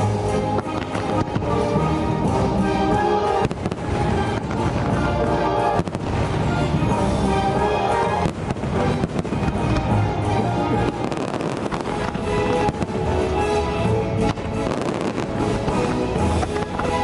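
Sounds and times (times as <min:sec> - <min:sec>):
fireworks bangs: 0:00.0 - 0:17.0
music: 0:00.0 - 0:17.0.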